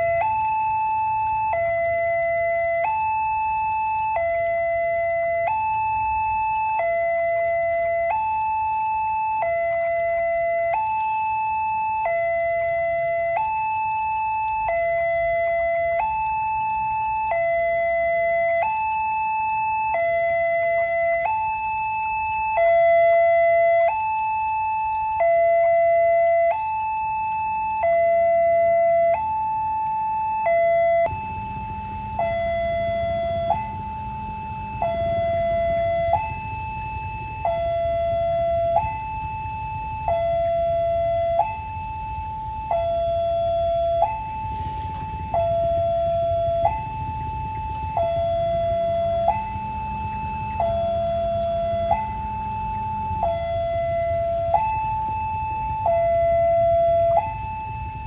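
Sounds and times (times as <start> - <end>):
level crossing two-tone alarm: 0.0 - 58.0.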